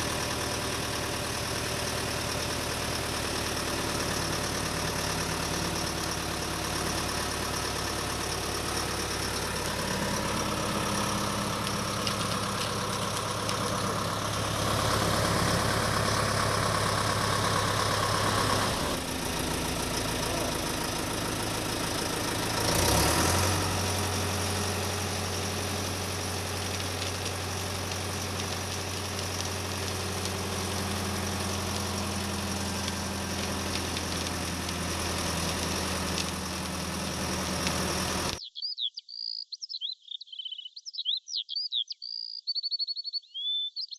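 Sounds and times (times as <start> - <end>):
engine idling: 0.0 - 38.4.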